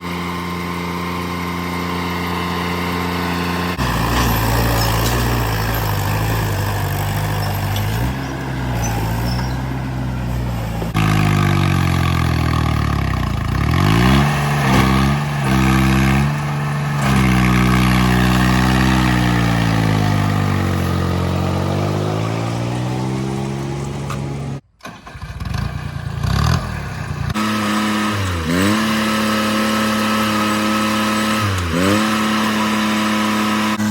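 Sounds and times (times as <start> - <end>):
tractor diesel engines revving: 0.0 - 33.9.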